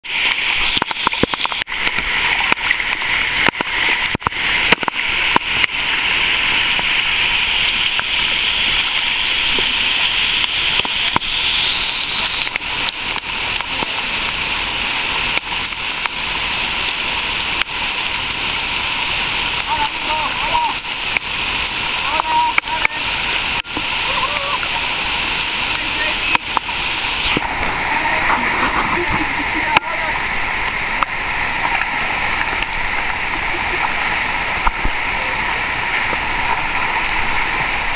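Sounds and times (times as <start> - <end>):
steady hiss: 0.1 - 37.9.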